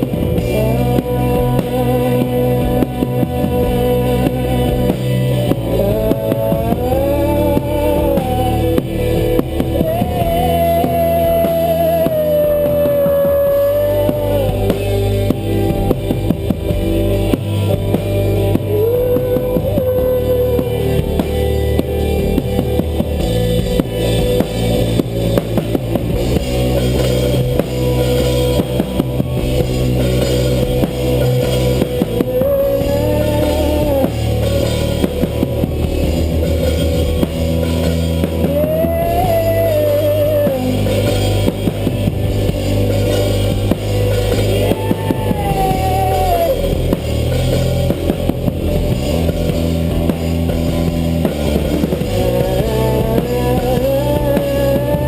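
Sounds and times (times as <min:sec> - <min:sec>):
bending lead guitar line: 0:00.0 - 0:55.0
rock band playing: 0:00.0 - 0:55.0.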